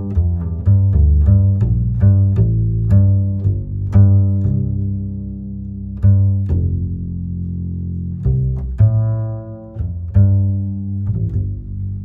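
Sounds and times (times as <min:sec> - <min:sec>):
low held string notes: 0:00.0 - 0:12.0.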